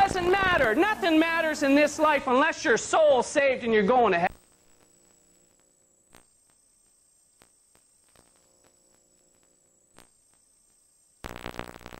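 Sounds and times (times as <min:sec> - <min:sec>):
steady high whine: 0:00.0 - 0:11.9.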